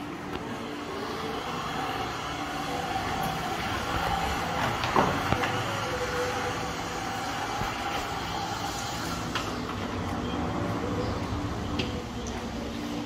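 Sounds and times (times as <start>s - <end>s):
heat gun fan whir and hiss: 0.0s - 13.0s.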